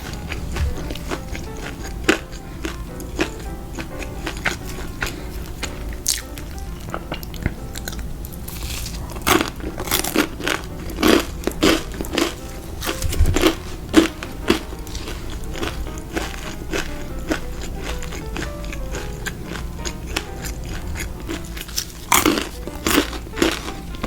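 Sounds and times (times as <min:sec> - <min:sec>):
crunching and chewing crispy food: 0:00.0 - 0:24.0.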